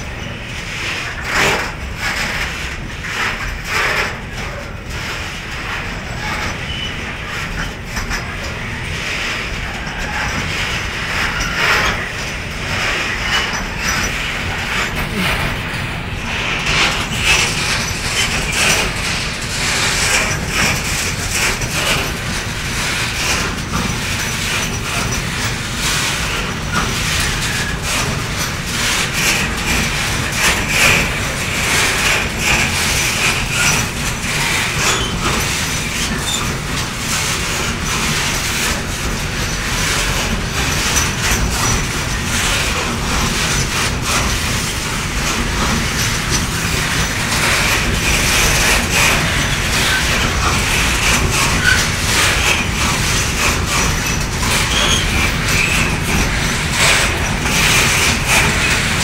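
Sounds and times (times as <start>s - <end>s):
train rumble and hiss: 0.0s - 59.0s
train wheels clicking: 0.0s - 59.0s.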